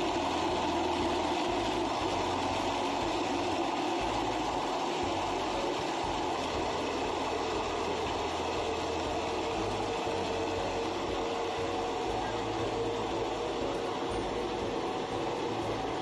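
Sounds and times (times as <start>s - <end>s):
electric blender running: 0.0s - 16.0s.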